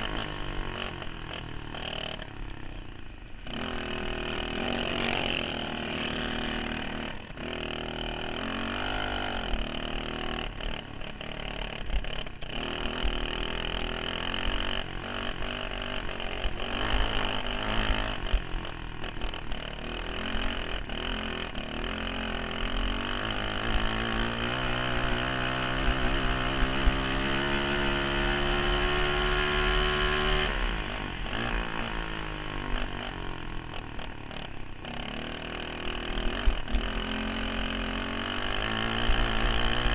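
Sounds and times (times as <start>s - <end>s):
kart engine revving: 0.0s - 2.8s, 3.4s - 39.9s.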